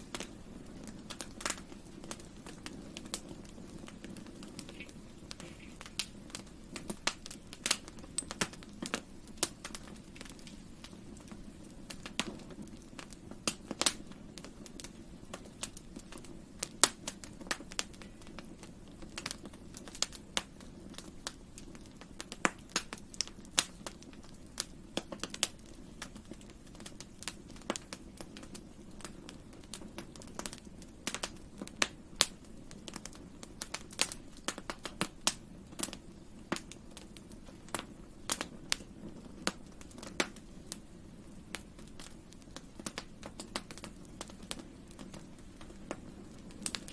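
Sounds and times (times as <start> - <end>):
campfire crackling: 0.0 - 46.9
low background noise: 0.0 - 46.9.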